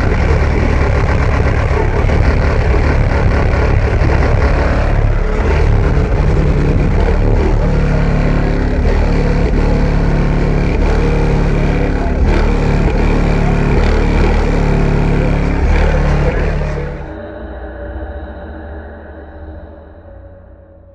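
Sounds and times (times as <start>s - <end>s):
bass-heavy music through subwoofers: 0.0s - 17.2s.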